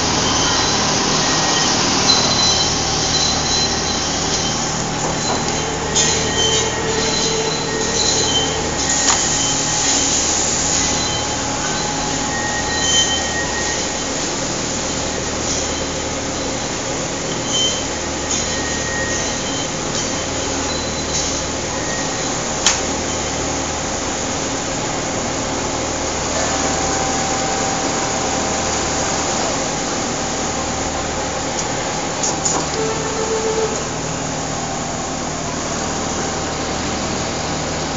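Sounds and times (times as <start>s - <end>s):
factory machines din: 0.0s - 37.9s.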